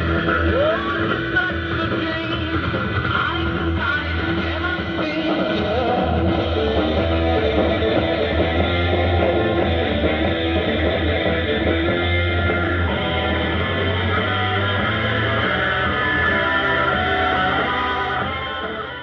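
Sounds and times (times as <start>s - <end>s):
rock music over radio: 0.0s - 19.0s.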